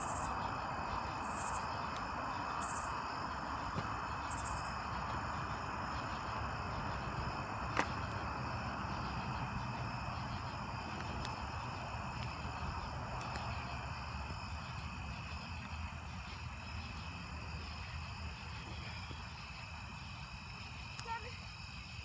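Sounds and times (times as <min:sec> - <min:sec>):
crickets trilling: 0:00.0 - 0:22.0
low steady hiss: 0:00.0 - 0:22.0.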